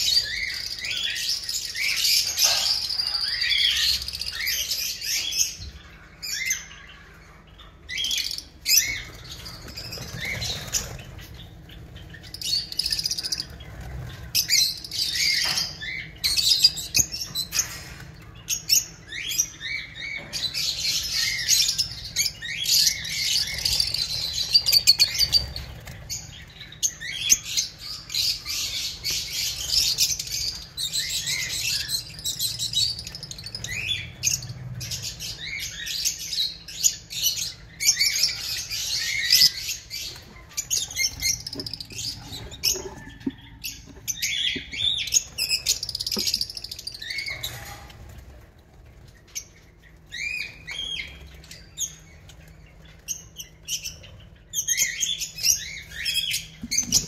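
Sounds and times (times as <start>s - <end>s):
lovebirds chirping and screeching: 0.0s - 57.0s.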